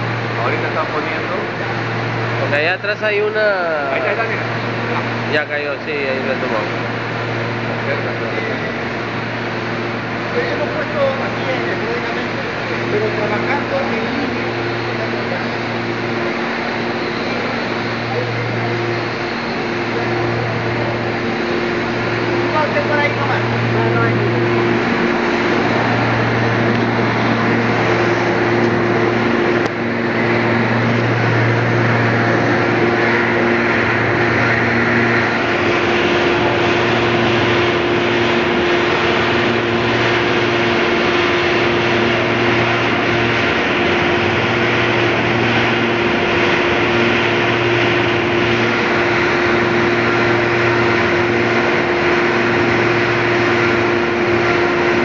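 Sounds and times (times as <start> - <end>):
blower and burner rushing: 0.0 - 55.0
low machine hum: 0.0 - 55.0.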